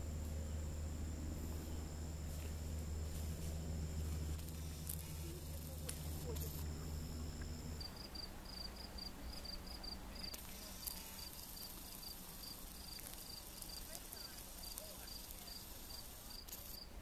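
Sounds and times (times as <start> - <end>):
faint high hiss: 0.0 - 17.0
insect chirping: 0.1 - 16.9.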